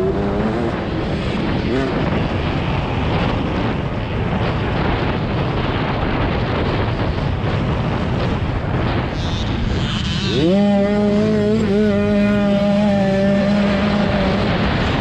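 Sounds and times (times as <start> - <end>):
dirt bike engine: 0.0 - 15.0
wind rushing over microphone: 0.0 - 15.0.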